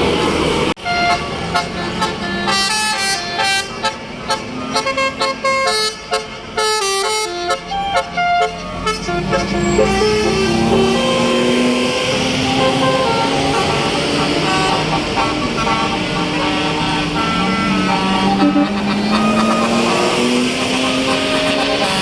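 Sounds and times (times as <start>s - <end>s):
bus musical horn melody: 0.8s - 22.0s.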